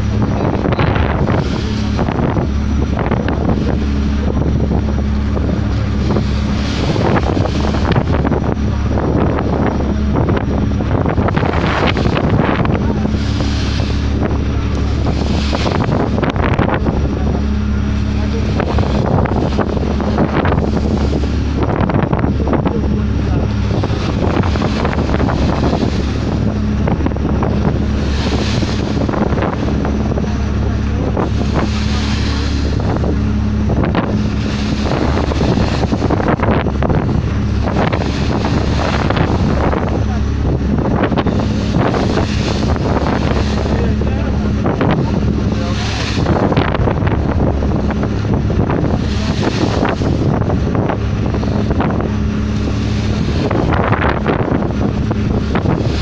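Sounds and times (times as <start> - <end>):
boat engine drone: 0.0 - 56.0
water rushing along boat hull: 0.0 - 56.0
wind buffeting microphone: 0.0 - 56.0.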